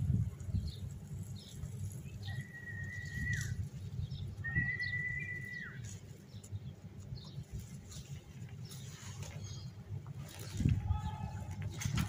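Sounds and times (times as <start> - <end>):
birds chirping faintly: 0.1 - 12.0.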